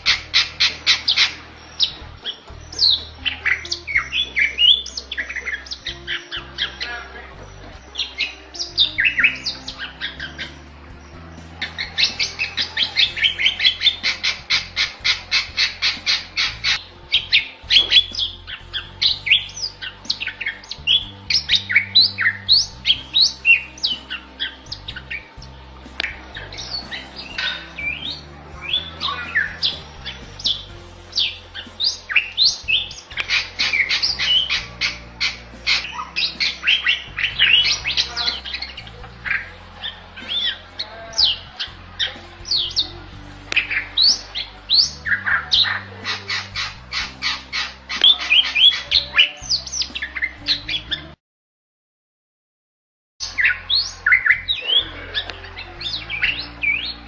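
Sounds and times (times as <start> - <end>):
bird singing: 0.0 - 51.2, 53.2 - 57.0.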